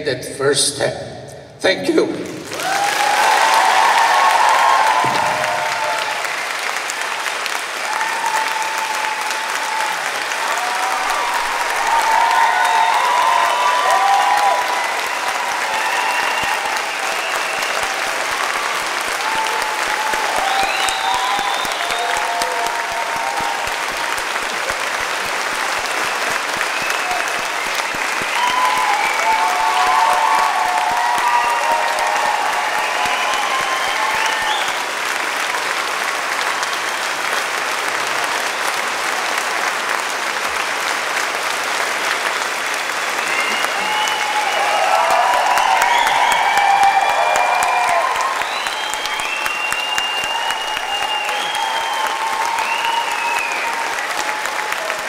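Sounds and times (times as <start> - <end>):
audience applauding: 2.1 - 55.0
voices over applause: 2.2 - 55.0.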